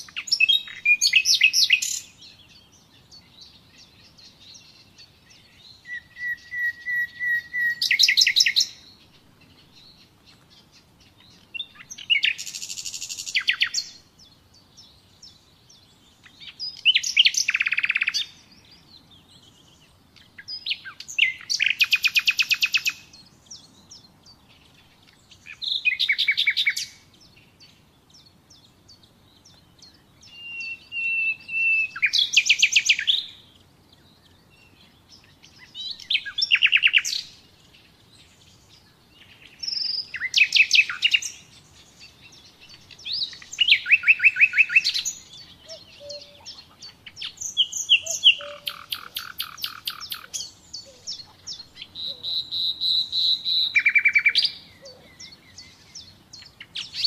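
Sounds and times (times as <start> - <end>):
nightingale singing trills: 0.0 - 57.0.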